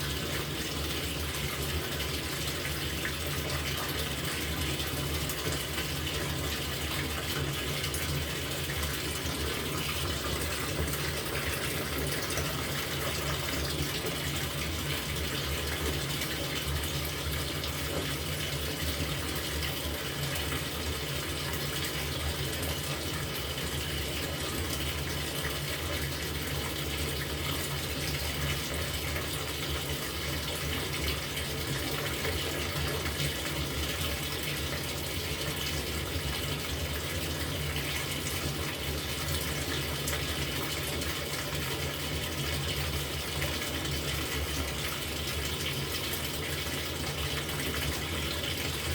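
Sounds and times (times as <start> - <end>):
water gushing into drum: 0.0 - 48.9.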